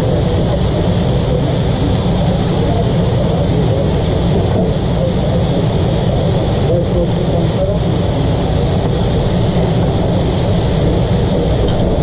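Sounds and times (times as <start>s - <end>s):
machine drone with hiss: 0.0s - 12.0s.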